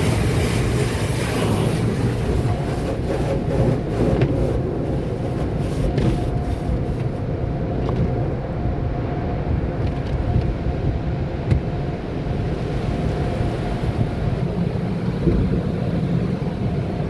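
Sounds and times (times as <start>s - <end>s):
car wash machinery rumbling: 0.0s - 17.0s.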